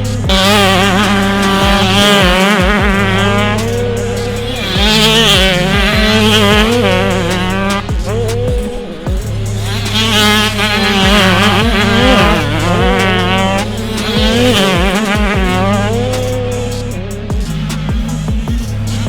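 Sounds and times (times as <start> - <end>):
bike engine surging: 0.0 - 19.0
motocross bike engines revving: 0.0 - 19.0.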